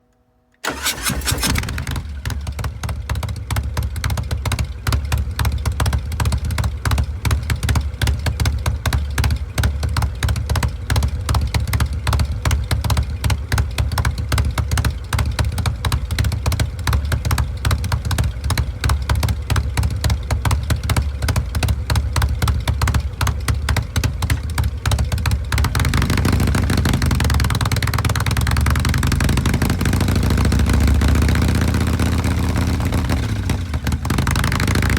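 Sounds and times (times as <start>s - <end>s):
motorcycle engine idling: 0.6s - 34.9s.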